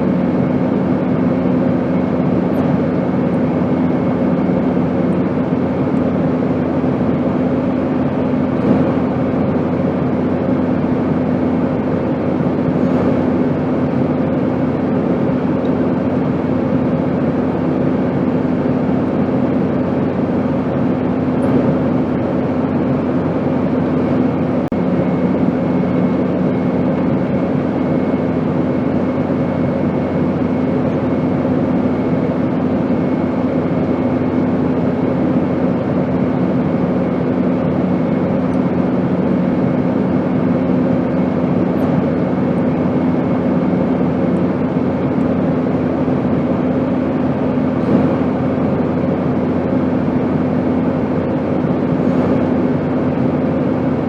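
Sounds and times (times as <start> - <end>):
constant low hum: 0.0 - 54.0.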